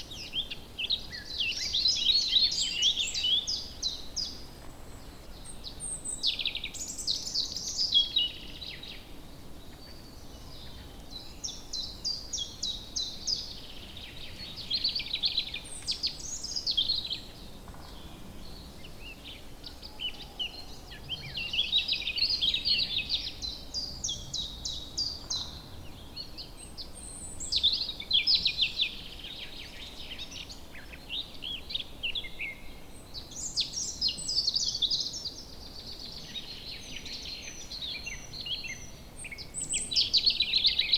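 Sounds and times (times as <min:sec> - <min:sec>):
faint background hiss: 0:00.0 - 0:40.9
songbirds trilling: 0:00.0 - 0:40.9.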